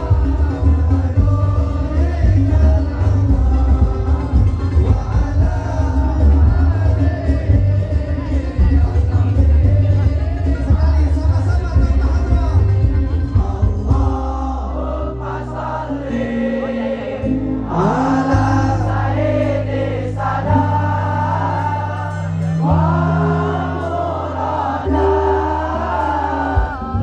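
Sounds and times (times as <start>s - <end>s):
held accompaniment chords: 0.0s - 27.0s
male chorus singing: 0.0s - 27.0s.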